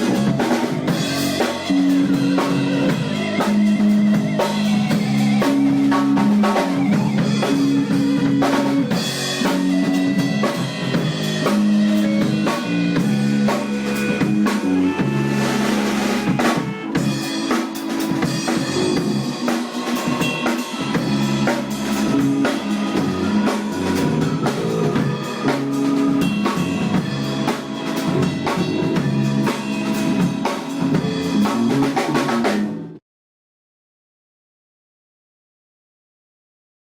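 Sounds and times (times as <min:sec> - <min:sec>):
band music: 0:00.0 - 0:33.0.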